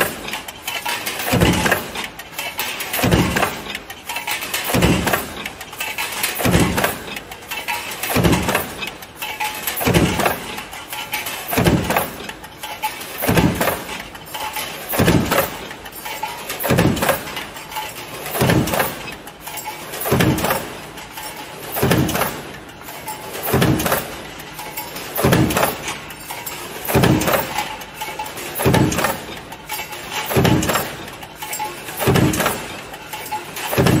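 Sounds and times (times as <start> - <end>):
metal stamping press strokes: 0.0 - 34.0.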